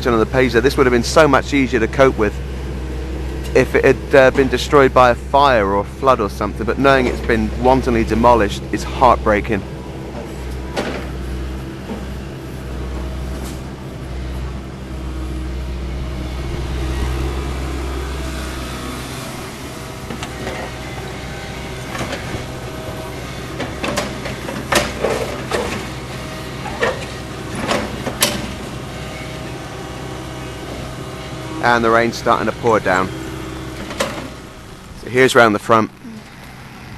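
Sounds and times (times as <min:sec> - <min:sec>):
engine running low rumble: 0:00.0 - 0:36.9.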